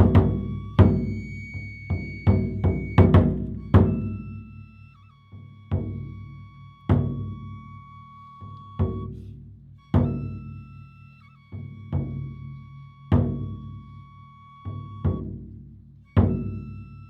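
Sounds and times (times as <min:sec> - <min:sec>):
taiko drum beats: 0:00.0 - 0:17.0.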